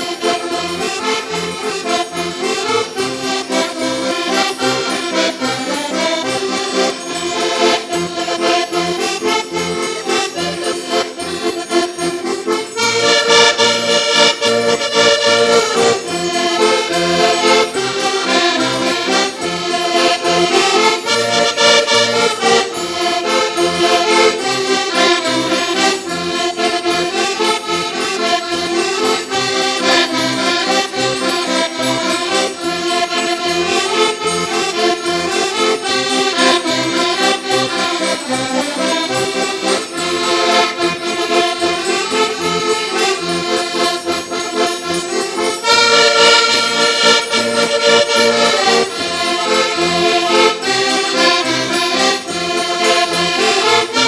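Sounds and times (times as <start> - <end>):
button accordions playing folk tune: 0.0 - 54.0.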